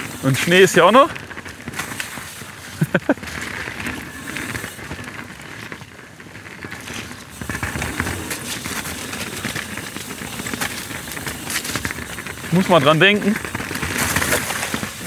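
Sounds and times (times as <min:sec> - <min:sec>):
bike clicks and rattles: 0:00.0 - 0:15.0
tyres crackling through slush: 0:00.0 - 0:15.0.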